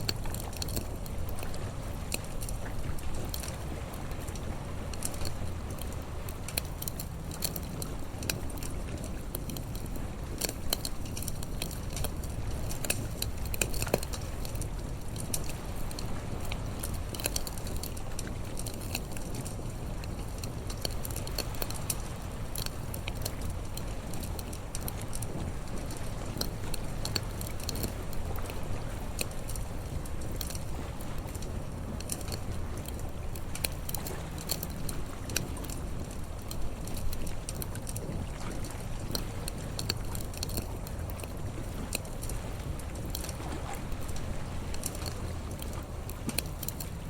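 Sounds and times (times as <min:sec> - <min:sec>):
bonfire crackling: 0:00.0 - 0:47.0.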